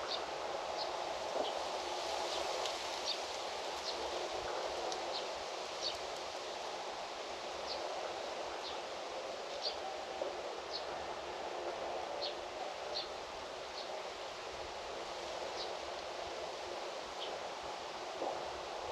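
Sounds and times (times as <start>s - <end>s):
wind rustling foliage: 0.0s - 18.9s.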